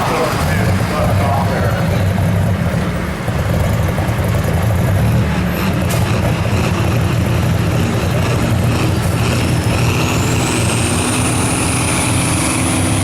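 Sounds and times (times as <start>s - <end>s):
engine running loud and hard: 0.0s - 13.0s.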